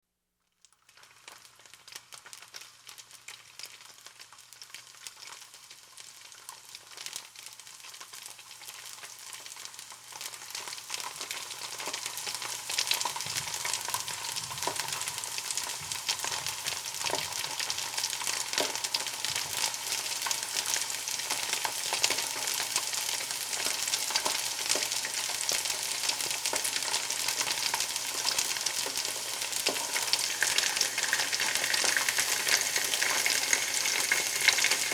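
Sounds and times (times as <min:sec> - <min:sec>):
food sizzling in hot oil: 0:00.8 - 0:34.9.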